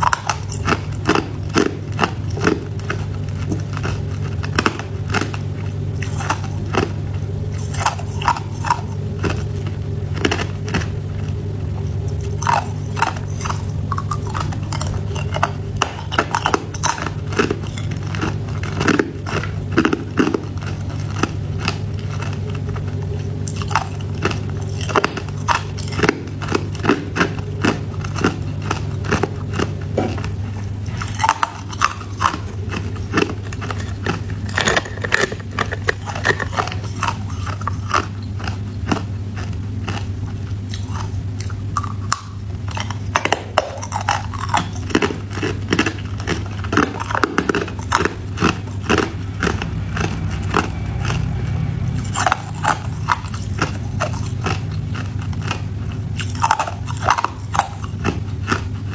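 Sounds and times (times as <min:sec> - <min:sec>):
ice being chewed: 0:00.0 - 0:58.9.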